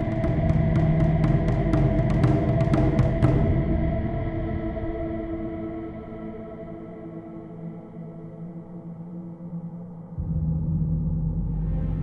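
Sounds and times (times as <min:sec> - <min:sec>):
droning soundtrack music: 0:00.0 - 0:12.0.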